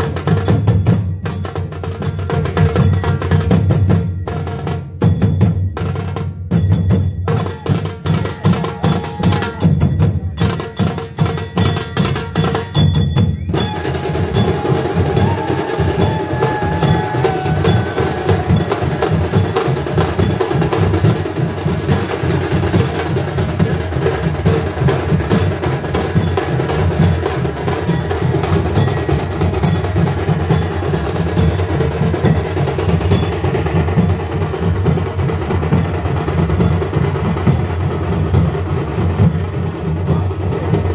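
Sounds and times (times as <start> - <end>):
drums beaten fast: 0.0 - 40.9.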